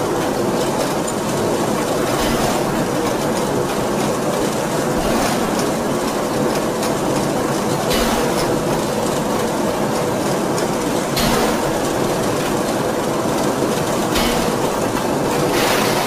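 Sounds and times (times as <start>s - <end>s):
mill machine rumble with clatter: 0.0s - 16.0s.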